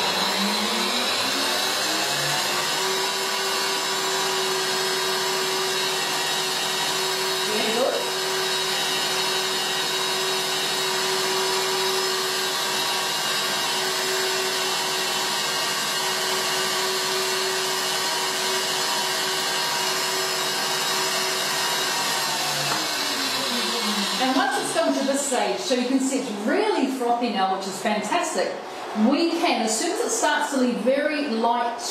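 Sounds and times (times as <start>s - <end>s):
electric stand mixer running: 0.0s - 28.0s, 28.6s - 30.4s.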